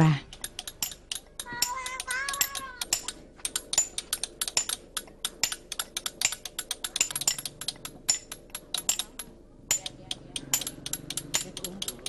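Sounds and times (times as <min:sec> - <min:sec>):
hammer tapping chisel on stone: 0:00.3 - 0:12.0.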